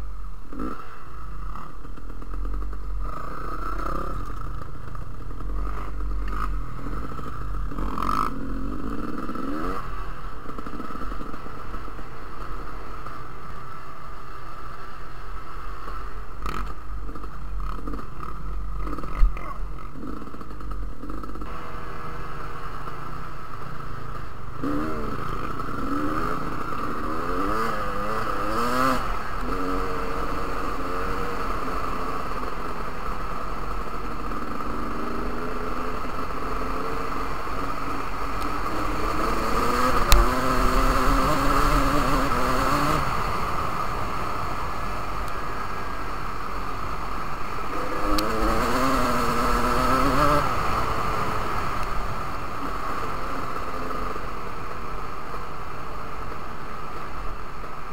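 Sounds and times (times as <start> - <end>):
rattling over rough ground: 0.0 - 54.3
dirt bike engine revving: 0.5 - 56.3.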